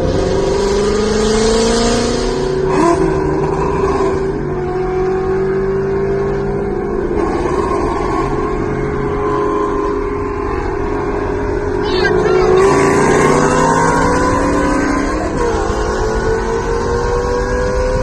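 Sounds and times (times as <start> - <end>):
car exhaust drone: 0.0 - 18.0.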